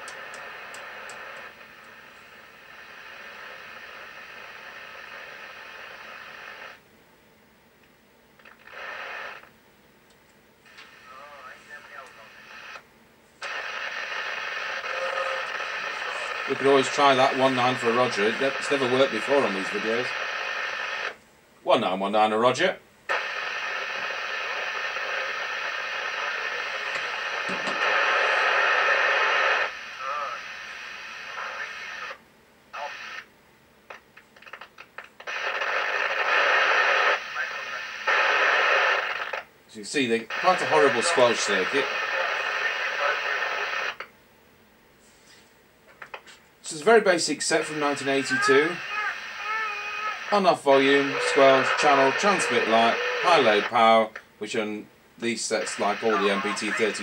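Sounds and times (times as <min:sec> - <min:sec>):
radio receiver hiss: 0:00.0 - 0:06.8, 0:08.4 - 0:09.6, 0:10.6 - 0:21.2, 0:23.1 - 0:44.2, 0:45.0 - 0:57.0.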